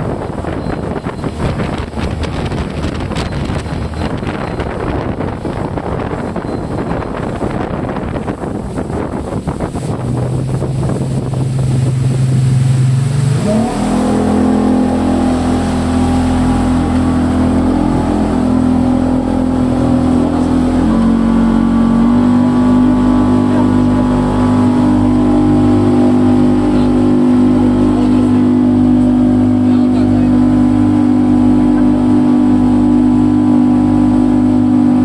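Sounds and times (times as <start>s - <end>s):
boat engine revving: 0.0s - 35.0s.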